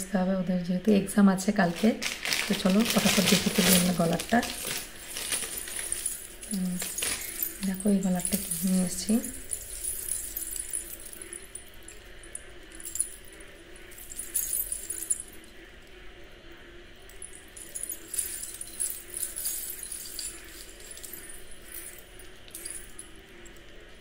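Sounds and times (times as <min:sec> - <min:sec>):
necklace beads jingling: 0:01.6 - 0:15.4, 0:17.2 - 0:23.8.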